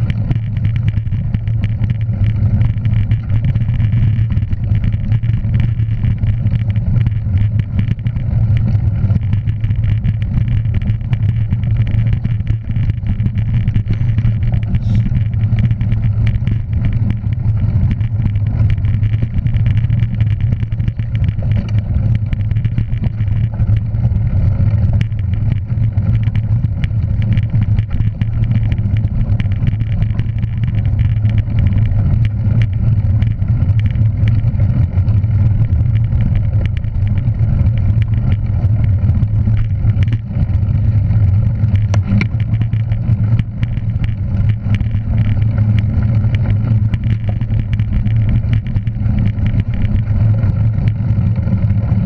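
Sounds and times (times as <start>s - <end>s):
vehicle engine running steadily: 0.0s - 52.0s.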